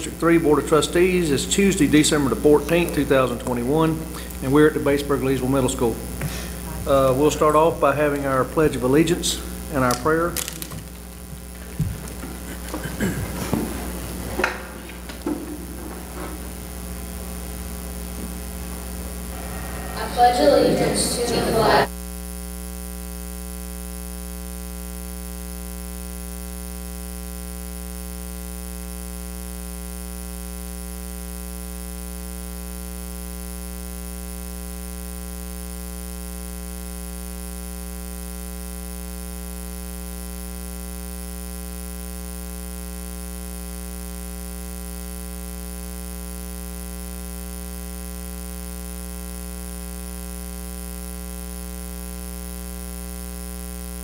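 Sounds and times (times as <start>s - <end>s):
electrical mains hum: 0.0s - 22.8s, 23.6s - 54.0s.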